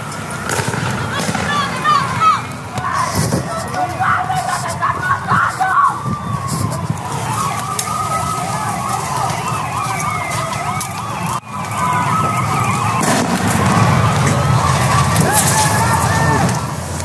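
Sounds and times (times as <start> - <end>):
sirens wailing: 0.0 - 17.0.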